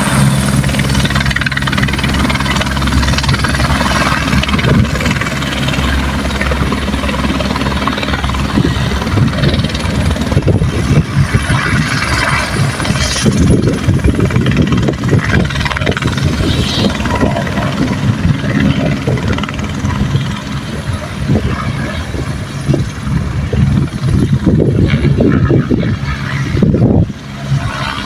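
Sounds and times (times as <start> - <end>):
helicopter rotor and engine: 0.0 - 28.0.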